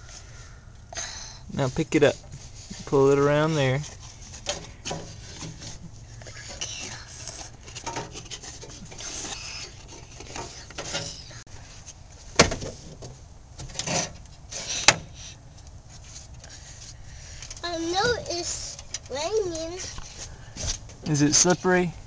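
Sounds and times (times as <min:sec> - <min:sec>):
parts rubbing and scraping: 0:01.6 - 0:21.8.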